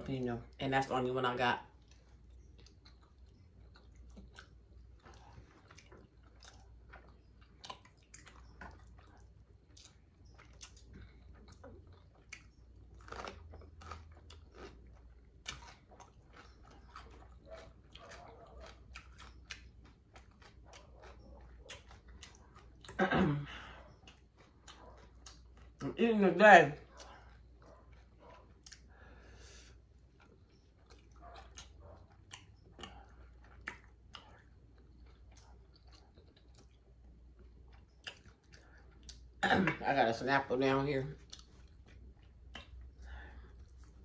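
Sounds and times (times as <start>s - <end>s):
person chewing food: 1.7s - 26.0s, 26.8s - 39.4s, 41.2s - 44.0s.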